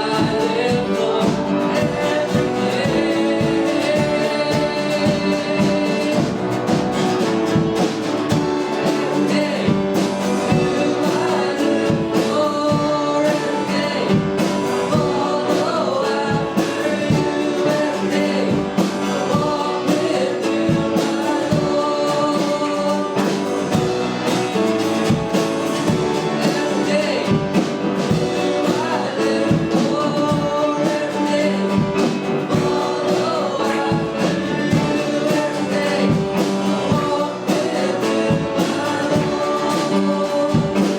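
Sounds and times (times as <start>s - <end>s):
worship song singing with band: 0.0s - 40.9s.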